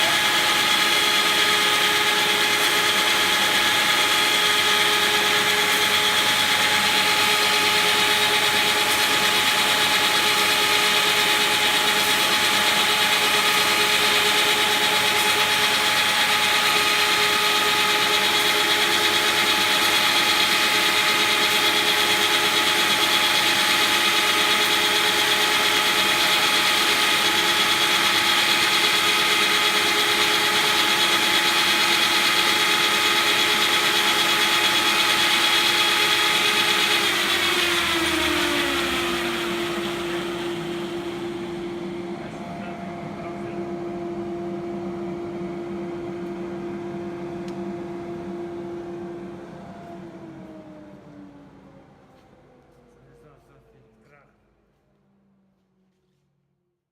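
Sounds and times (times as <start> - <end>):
milling machine whining: 0.0 - 51.9.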